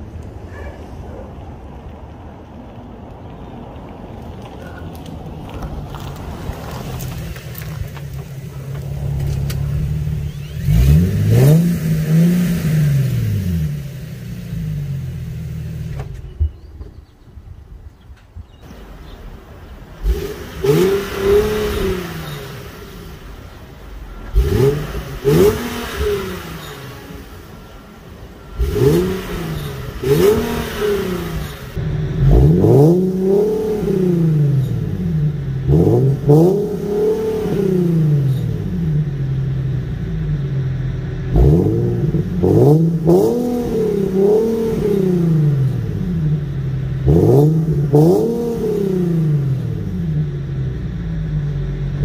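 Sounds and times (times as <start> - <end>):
car engine idling: 0.0 - 18.0, 18.6 - 52.0
car engine revving: 4.2 - 16.2, 18.7 - 52.0.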